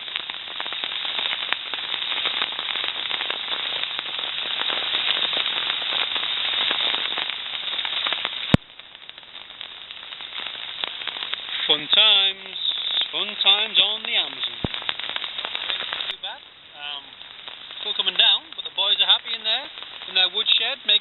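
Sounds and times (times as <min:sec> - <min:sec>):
heavy rain pattering: 0:00.0 - 0:21.0.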